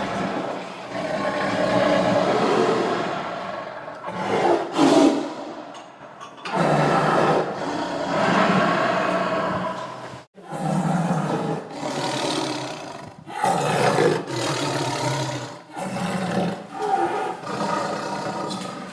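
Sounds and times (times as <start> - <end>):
tiger roaring: 0.0 - 5.6, 6.4 - 18.9.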